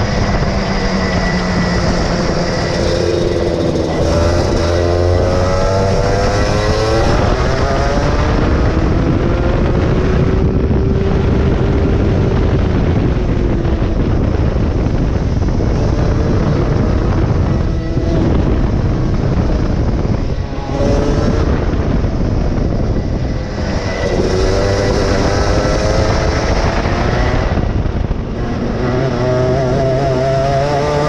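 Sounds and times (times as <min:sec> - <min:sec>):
go-kart engine pulling hard: 0:00.0 - 0:31.0
steady rush of noise: 0:00.0 - 0:31.0.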